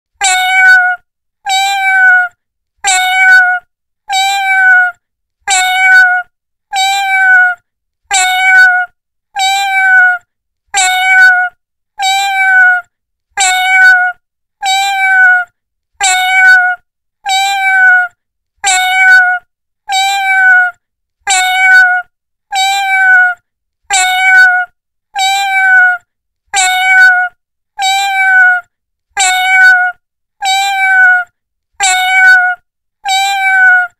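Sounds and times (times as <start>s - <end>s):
cat meowing: 0.2s - 33.9s.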